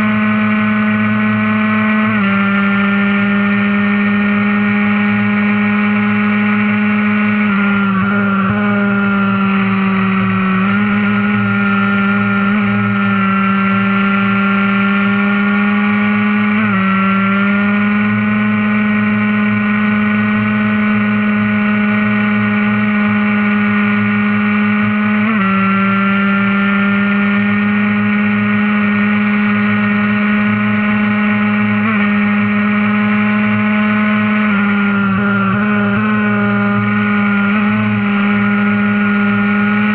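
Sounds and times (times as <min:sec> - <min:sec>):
two-stroke engine revving high: 0:00.0 - 0:39.9.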